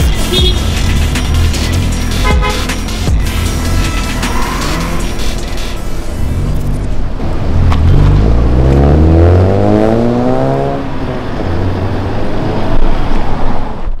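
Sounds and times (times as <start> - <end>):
car engine accelerating: 0.0 - 13.8.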